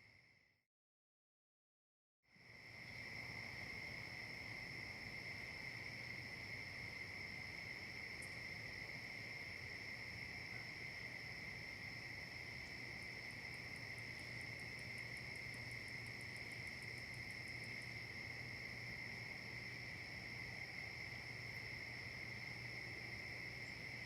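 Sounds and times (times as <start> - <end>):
crickets and insects trilling: 2.4 - 24.0.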